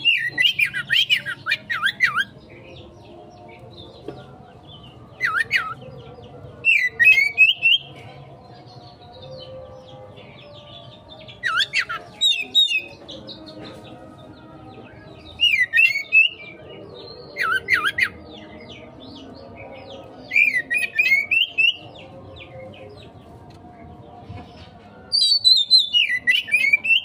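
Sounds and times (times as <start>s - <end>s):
songbird singing harsh notes: 0.0s - 23.2s, 25.1s - 27.0s.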